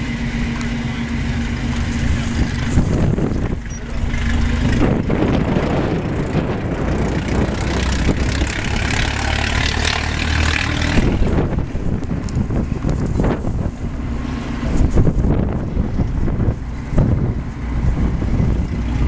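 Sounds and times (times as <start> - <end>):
car engine running and revving: 0.0 - 19.0.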